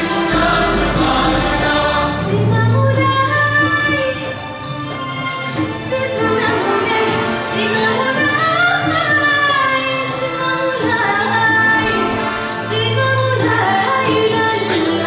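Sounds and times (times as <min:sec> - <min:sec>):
woman singing: 0:00.0 - 0:04.6, 0:05.6 - 0:15.0
symphony orchestra: 0:00.0 - 0:15.0.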